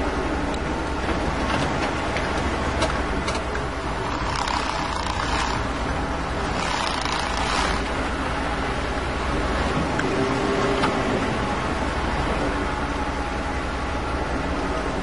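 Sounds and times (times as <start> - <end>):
off-road vehicle engine rumble: 0.0 - 15.0.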